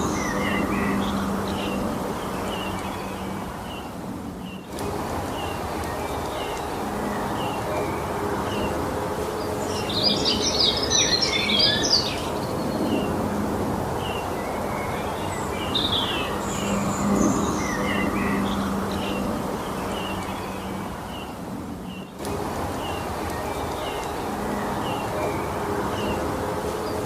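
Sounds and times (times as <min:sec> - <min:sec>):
background hiss: 0:00.0 - 0:27.0
birds singing: 0:00.0 - 0:27.0.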